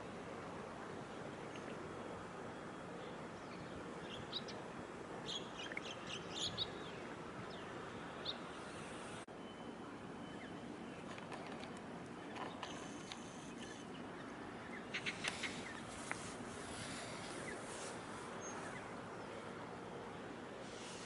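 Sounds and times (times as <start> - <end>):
outdoor background noise: 0.0 - 21.0
small birds chirping: 2.9 - 9.2, 10.2 - 21.0.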